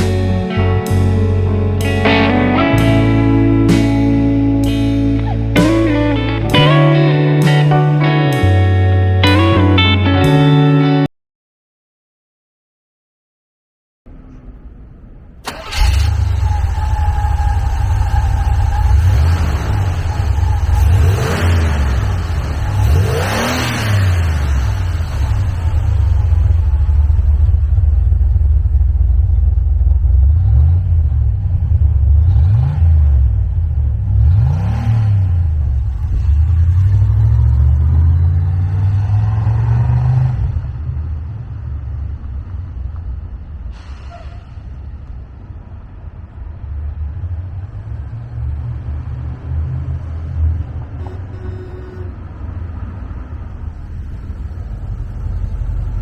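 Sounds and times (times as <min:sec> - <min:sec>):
car engine idling and revving: 0:00.0 - 0:10.4, 0:14.1 - 0:56.0.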